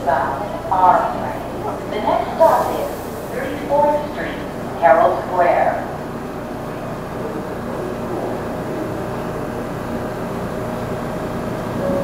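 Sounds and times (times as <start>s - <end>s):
subway train humming: 0.0s - 12.0s.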